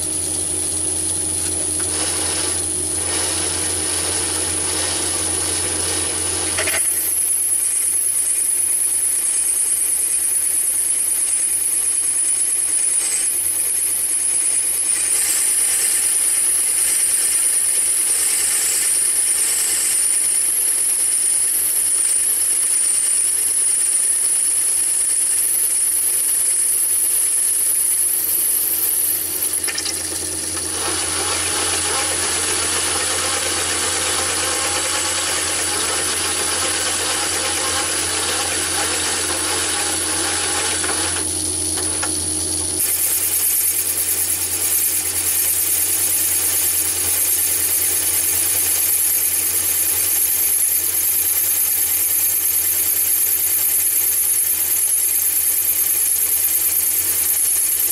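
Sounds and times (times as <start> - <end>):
high wavering cutting whine: 0.0 - 57.9
lathe running: 0.0 - 57.9.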